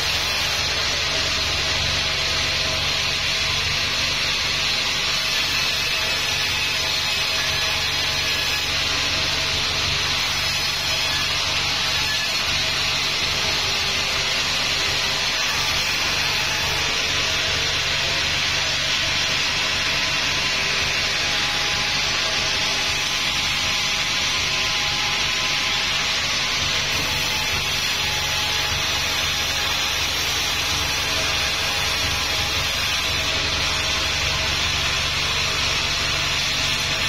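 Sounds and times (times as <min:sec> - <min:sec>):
band saw blade cutting wood: 0:00.0 - 0:37.0.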